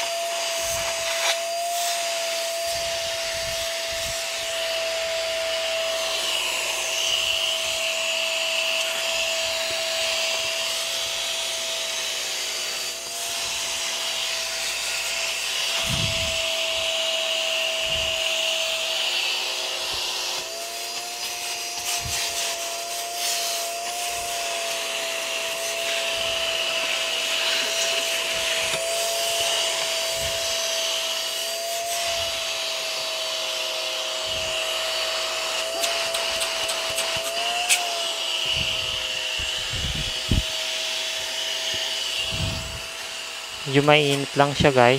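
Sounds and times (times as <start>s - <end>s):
vacuum cleaner whining: 0.0s - 44.9s.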